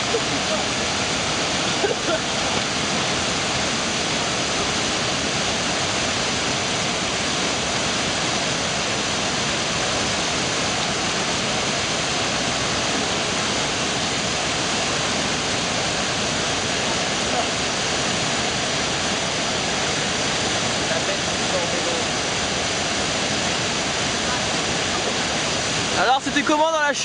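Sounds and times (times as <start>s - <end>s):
waterfall rushing water: 0.0s - 27.0s.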